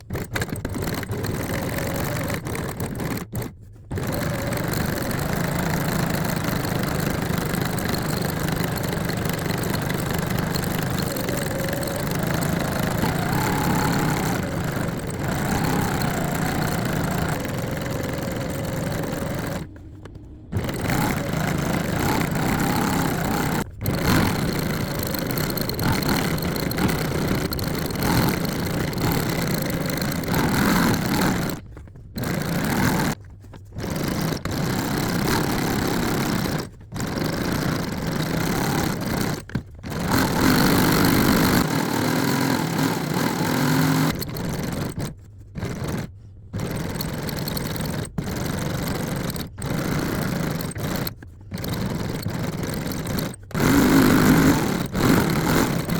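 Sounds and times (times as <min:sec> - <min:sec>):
sewing machine stitching: 0:00.0 - 0:55.9.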